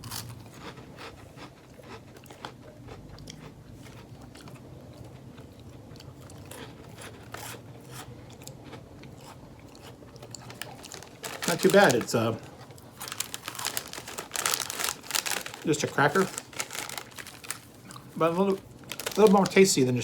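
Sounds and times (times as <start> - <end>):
person chewing crunchy cracker: 0.0 - 19.6.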